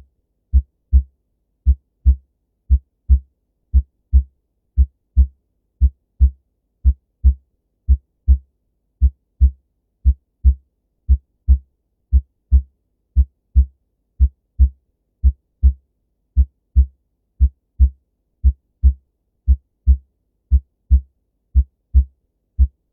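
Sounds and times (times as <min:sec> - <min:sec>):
heartbeat lub-dub: 0:00.5 - 0:08.4, 0:09.0 - 0:15.8, 0:16.4 - 0:22.9.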